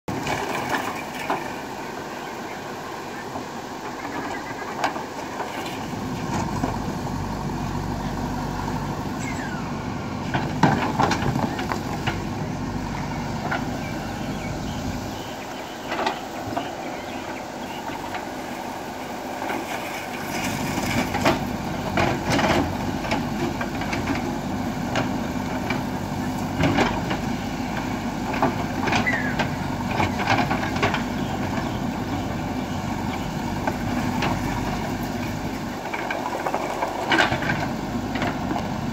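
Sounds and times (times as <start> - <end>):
heavy diesel machine engine: 0.0 - 38.9.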